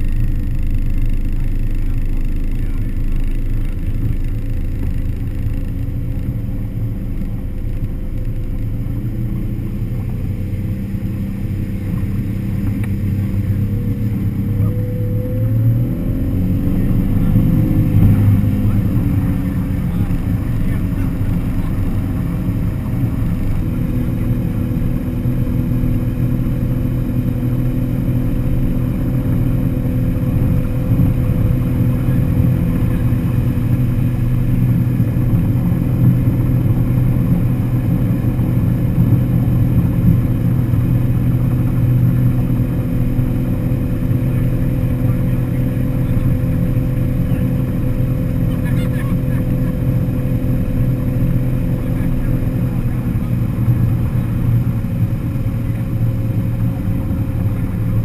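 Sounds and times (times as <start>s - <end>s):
motorboat engine running: 0.0s - 58.0s.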